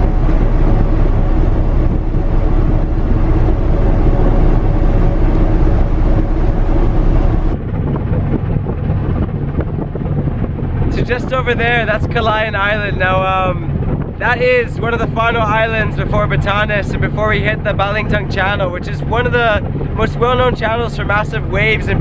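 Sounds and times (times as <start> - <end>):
ship engine drone: 0.0 - 22.0
wind on microphone: 0.0 - 22.0.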